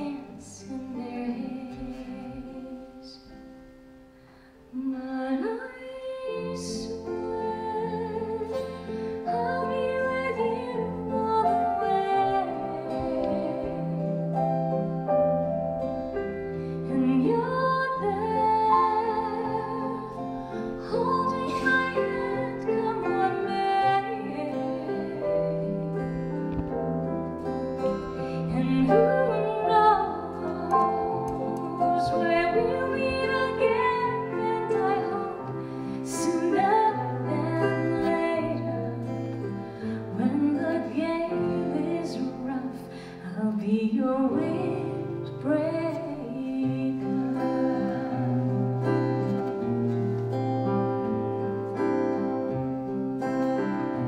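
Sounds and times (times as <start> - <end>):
woman singing: 0.0 - 3.7, 4.7 - 27.0, 27.8 - 49.7
acoustic guitar: 0.0 - 54.0
piano: 0.0 - 54.0
violin: 0.0 - 54.0.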